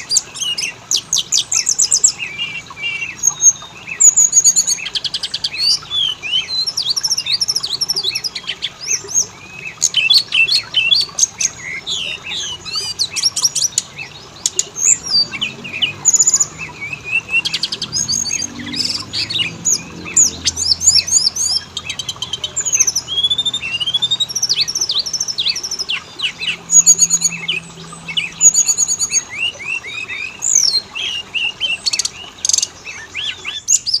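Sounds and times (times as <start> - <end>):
harsh bird calls: 0.0 - 34.0
songbird whistles and chirps: 0.0 - 34.0.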